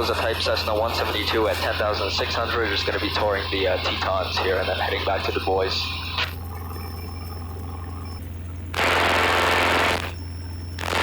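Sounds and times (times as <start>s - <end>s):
radio static burst: 0.0s - 8.1s, 8.7s - 10.2s, 10.8s - 11.0s
aircraft engine drone: 0.0s - 11.0s.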